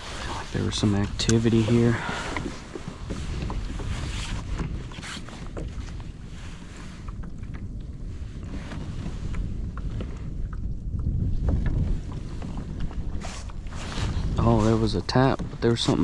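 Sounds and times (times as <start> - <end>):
water against kayak hull: 0.0 - 16.0
wind rumbling on microphone: 0.0 - 16.0.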